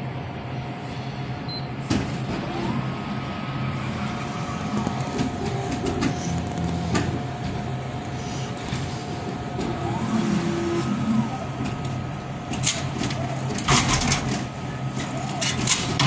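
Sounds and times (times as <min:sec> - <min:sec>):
vending machine motor humming: 0:00.0 - 0:16.0.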